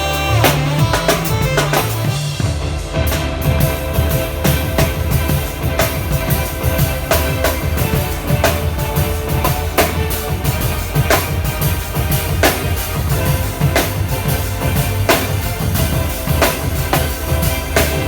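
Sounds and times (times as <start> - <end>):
bass and kick drum: 0.0 - 18.0
keyboard chords: 0.0 - 18.0.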